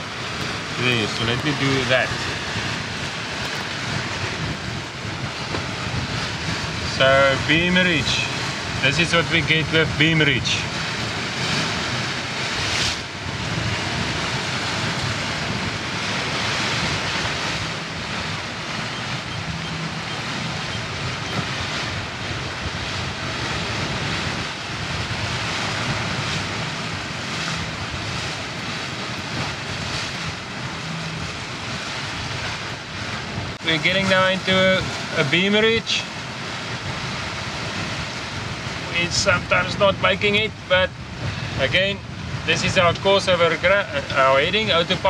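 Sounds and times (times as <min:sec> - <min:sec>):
water rushing past hulls: 0:00.0 - 0:45.0
wind buffeting microphone: 0:00.0 - 0:45.0.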